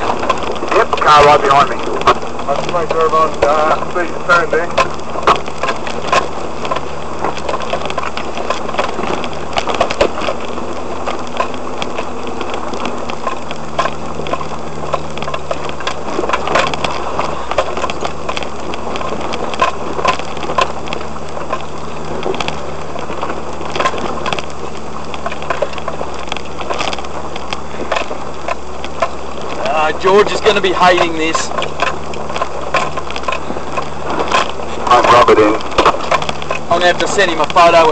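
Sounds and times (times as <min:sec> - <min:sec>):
low engine drone: 0:00.0 - 0:37.9
vehicle knocking and rattling: 0:00.0 - 0:37.9.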